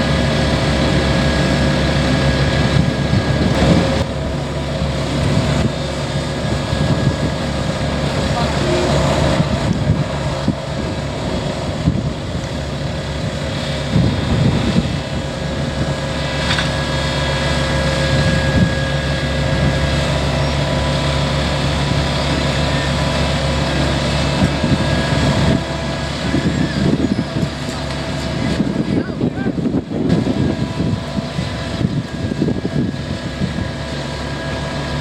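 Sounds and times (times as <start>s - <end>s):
paving machine engine running: 0.0s - 35.0s
wind on microphone: 0.1s - 17.0s, 17.7s - 35.0s.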